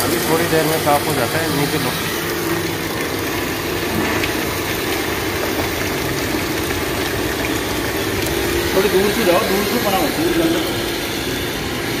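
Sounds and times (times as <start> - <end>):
motor running: 0.0 - 12.0
water rushing and draining: 0.0 - 12.0.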